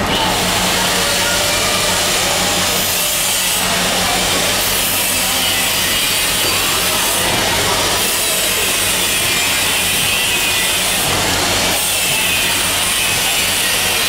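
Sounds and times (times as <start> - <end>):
packing machine whir and rattle: 0.0 - 14.0.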